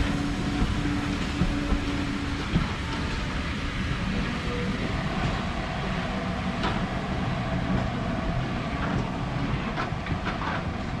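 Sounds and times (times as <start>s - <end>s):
train coaches rumbling on rails: 0.0s - 11.0s.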